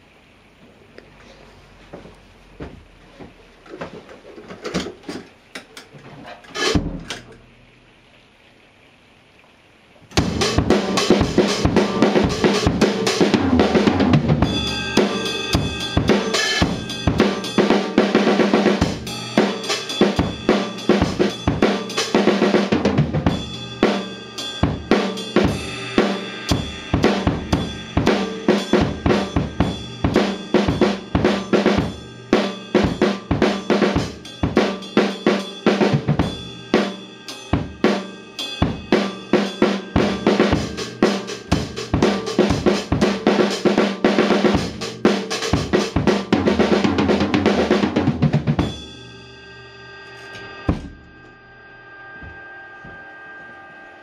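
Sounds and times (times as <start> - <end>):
acoustic drum kit: 1.2 - 7.7, 10.1 - 53.1.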